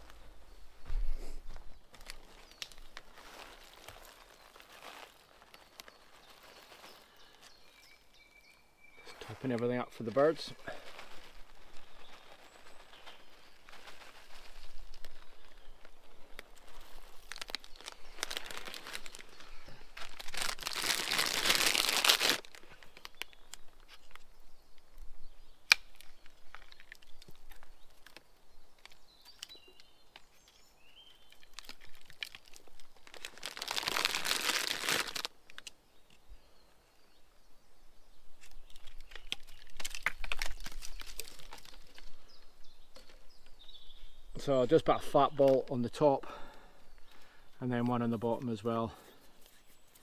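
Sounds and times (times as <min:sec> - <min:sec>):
crinkling rustles: 0:00.0 - 0:36.5, 0:38.3 - 0:50.0.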